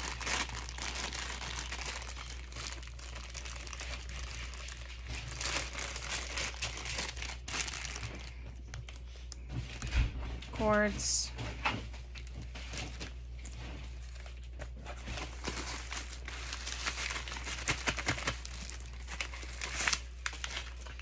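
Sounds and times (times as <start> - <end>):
plastic packaging crinkling: 0.0 - 9.9, 12.0 - 21.0.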